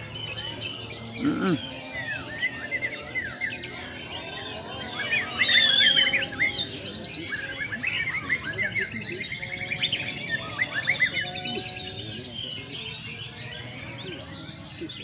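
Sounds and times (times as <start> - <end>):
bird whistles chirps and trills: 0.0 - 15.0.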